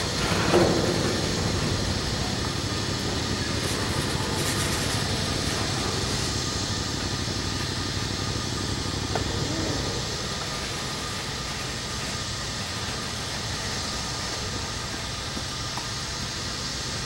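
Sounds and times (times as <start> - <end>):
freight train wheels rumbling and clattering: 0.0 - 17.0.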